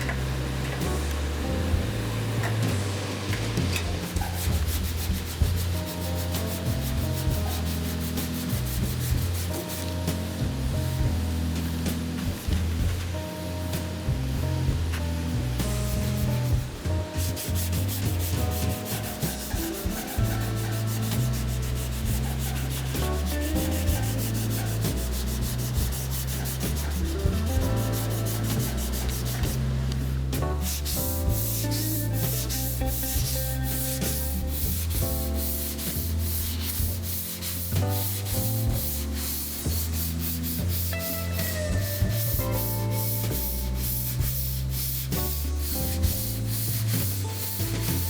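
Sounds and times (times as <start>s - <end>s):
background music: 0.0s - 48.0s
sanding metal by hand: 3.8s - 10.2s, 15.6s - 48.0s.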